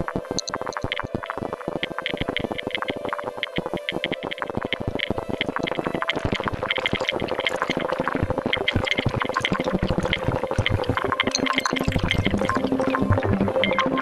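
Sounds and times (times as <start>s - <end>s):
dense fast crackle of clicks: 0.2s - 14.0s.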